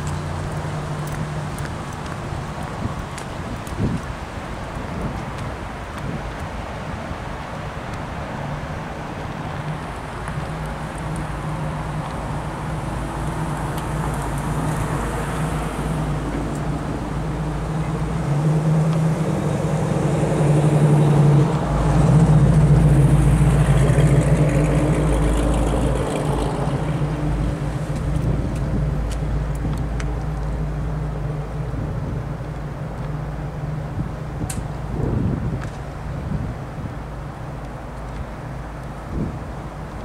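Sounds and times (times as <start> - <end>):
car engine humming: 0.0 - 35.0.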